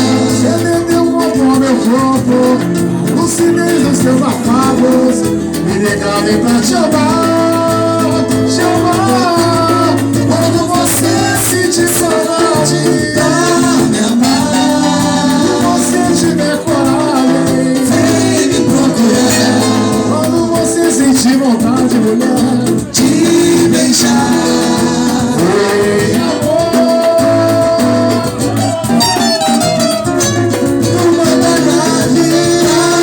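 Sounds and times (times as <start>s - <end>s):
bass line: 0.0s - 33.0s
steady beat: 0.0s - 33.0s.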